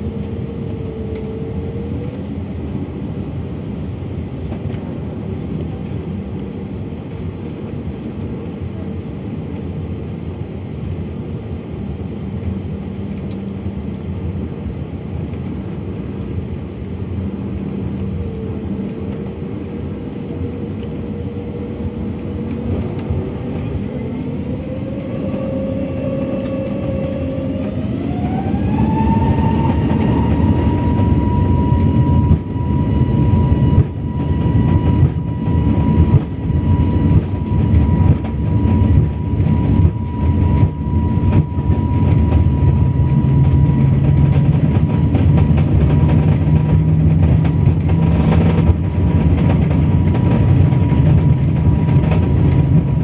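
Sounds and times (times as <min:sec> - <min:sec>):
jet engines whining: 0:00.0 - 0:53.0
rough rumble of takeoff roll: 0:00.0 - 0:53.0.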